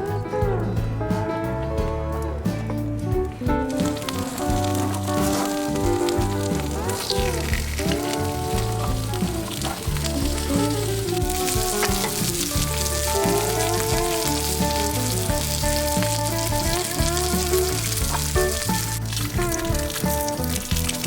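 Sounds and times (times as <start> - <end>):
background music with bass line: 0.0 - 21.0
food sizzling in pan: 3.7 - 21.0.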